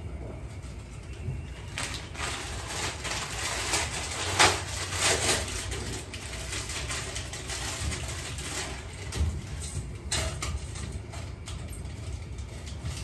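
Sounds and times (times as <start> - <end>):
plastic sachets crinkling and tearing: 1.1 - 13.0.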